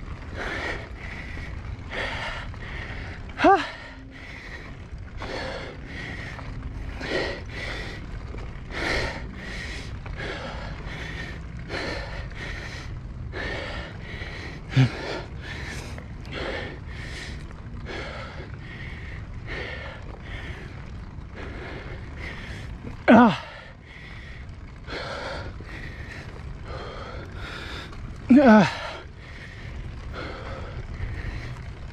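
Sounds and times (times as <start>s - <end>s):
low rumble of riding noise: 0.0s - 31.9s
person breathing hard: 0.2s - 31.9s.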